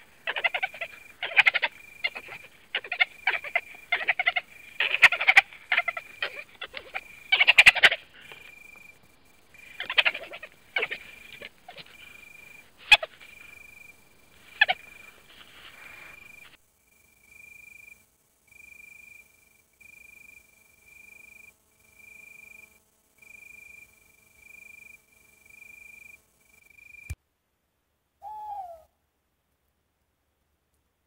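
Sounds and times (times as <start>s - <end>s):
cricket trilling: 0.0s - 27.2s.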